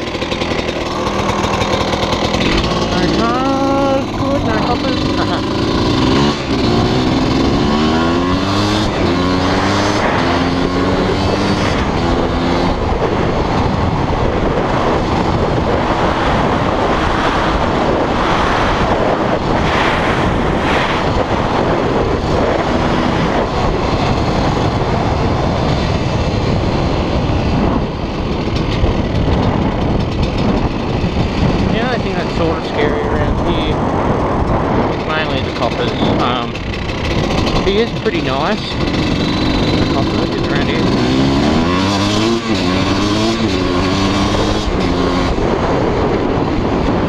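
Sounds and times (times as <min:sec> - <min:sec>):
dirt bike engine accelerating: 0:00.0 - 0:47.0
wind rushing over microphone: 0:00.0 - 0:47.0.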